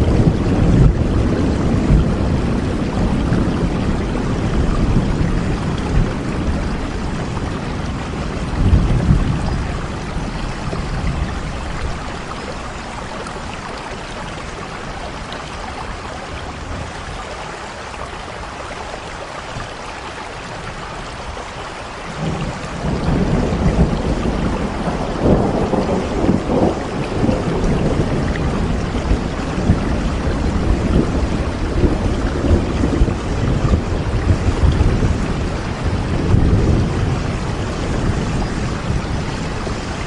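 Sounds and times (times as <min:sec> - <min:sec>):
rumble of thunder: 0:00.0 - 0:17.2, 0:22.1 - 0:40.0
steady rain: 0:00.0 - 0:40.0.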